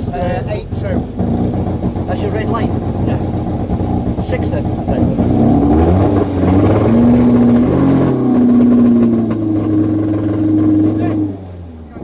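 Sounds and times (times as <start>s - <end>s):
car engine revving high: 0.0s - 12.0s.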